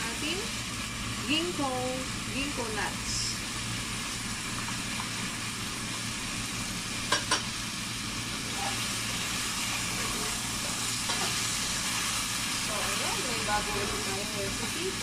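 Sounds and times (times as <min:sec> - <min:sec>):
vegetables sizzling in wok: 0:00.0 - 0:15.0.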